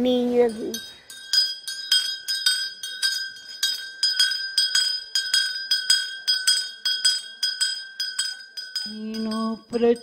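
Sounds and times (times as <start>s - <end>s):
bright clink struck repeatedly: 0.3s - 10.0s.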